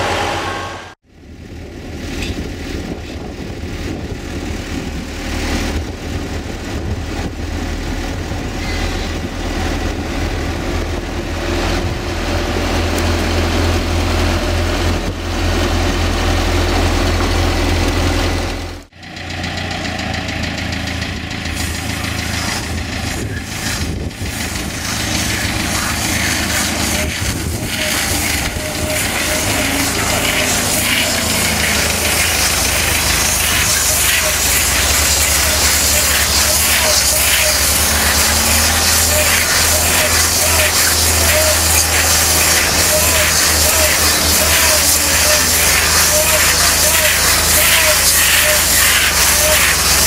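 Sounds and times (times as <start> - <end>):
diesel engines running: 0.0 - 50.0.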